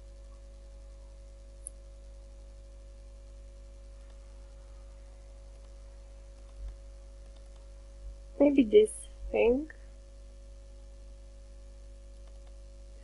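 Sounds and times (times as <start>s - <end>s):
faint steady tone: 0.0s - 13.0s
low electrical hum: 0.0s - 13.0s.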